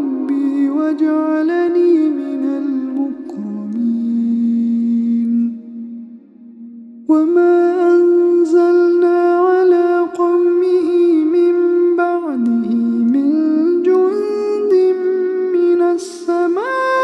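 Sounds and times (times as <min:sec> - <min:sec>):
man chanting recitation: 0:00.0 - 0:05.7, 0:07.1 - 0:17.0.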